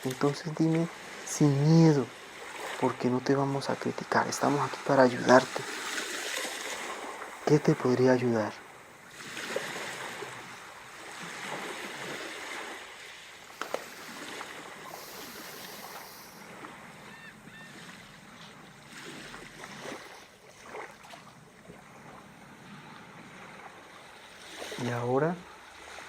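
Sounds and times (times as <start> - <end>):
ocean waves washing in: 0.0 - 26.0.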